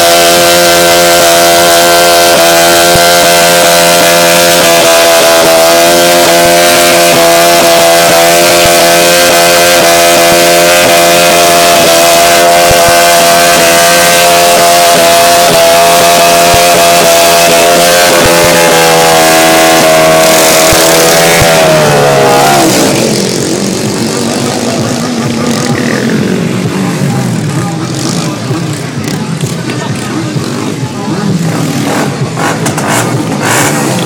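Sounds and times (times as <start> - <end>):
engine revving high: 0.0 - 34.0.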